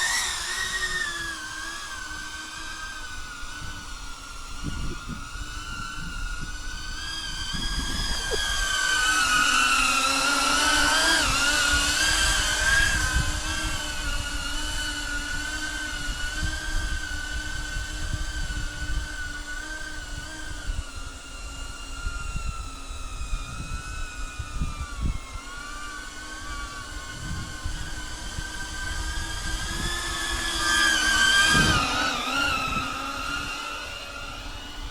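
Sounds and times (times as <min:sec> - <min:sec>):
drone propellers whining: 0:00.0 - 0:34.9
wind rumbling on microphone: 0:00.0 - 0:34.9.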